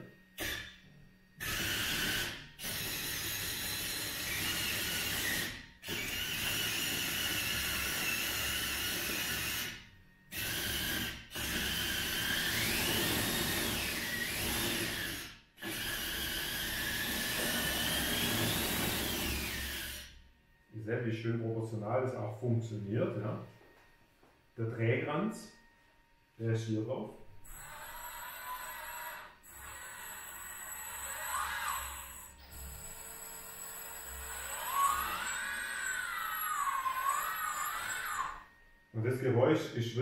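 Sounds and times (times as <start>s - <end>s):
electric motors whining: 0.0s - 20.8s, 27.3s - 39.3s.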